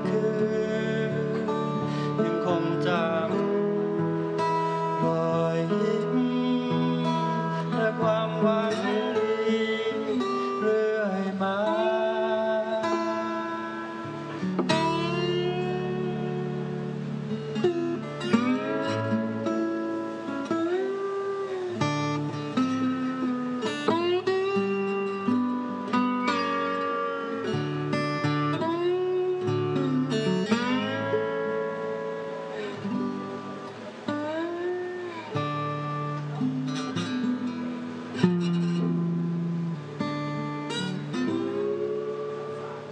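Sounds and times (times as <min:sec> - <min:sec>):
acoustic guitar with sliding notes: 0:00.0 - 0:42.9.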